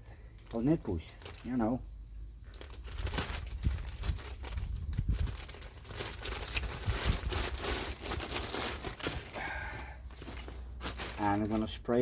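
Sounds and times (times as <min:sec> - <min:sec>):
moss crackling and rustling: 0:00.2 - 0:12.0.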